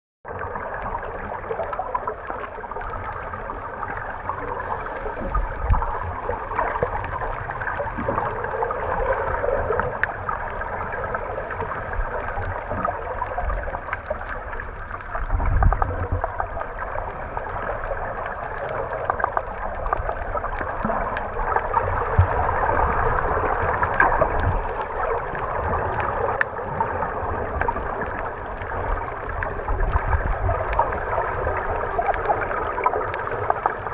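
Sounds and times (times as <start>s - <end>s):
gurgling bubbles: 0.3s - 33.9s
underwater water hiss: 2.3s - 30.0s.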